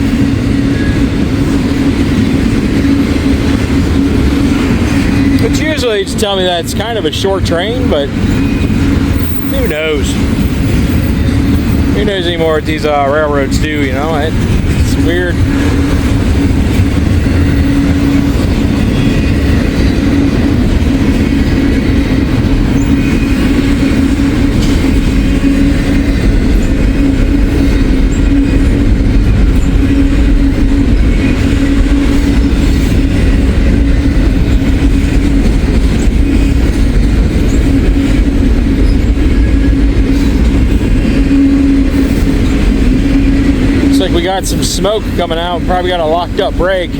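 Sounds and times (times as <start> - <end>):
freight train wheels rumbling on rail: 0.0 - 46.9.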